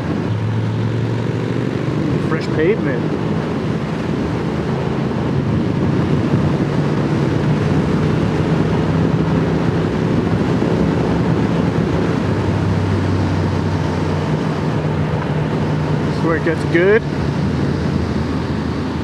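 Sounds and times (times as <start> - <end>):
motorcycle engine cruising: 0.0 - 19.0
wind rushing over microphone: 0.0 - 19.0.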